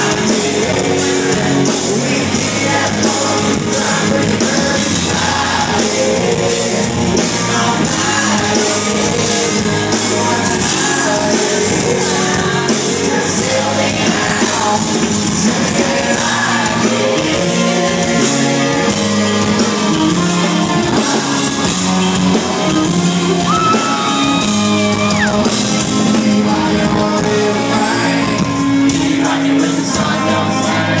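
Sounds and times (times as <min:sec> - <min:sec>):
country rock band playing live: 0:00.0 - 0:31.0
lead vocalist singing: 0:00.0 - 0:31.0.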